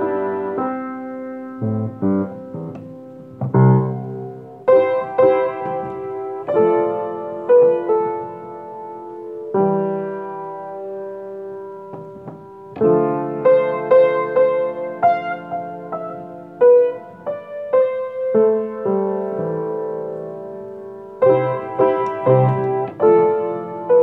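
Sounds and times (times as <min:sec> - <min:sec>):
slow piano playing: 0:00.0 - 0:24.0.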